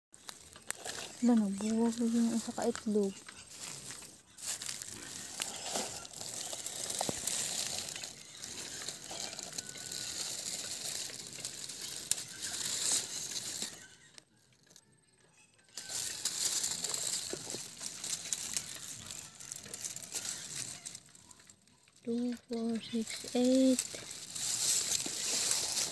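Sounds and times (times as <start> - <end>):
dry grass rustling and crackling: 0.2 - 14.9, 15.7 - 25.9.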